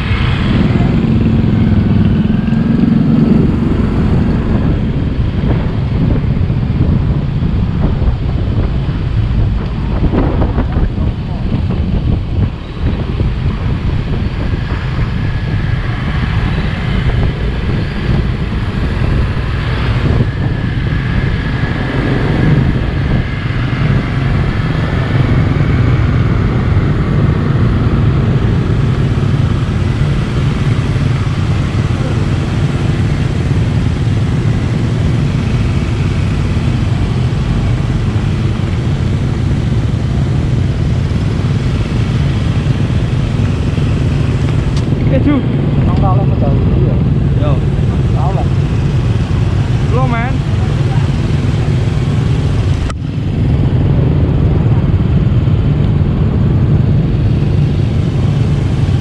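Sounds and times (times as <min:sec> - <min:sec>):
other motorcycles: 0:00.0 - 0:59.0
motor scooter engine running: 0:10.0 - 0:59.0.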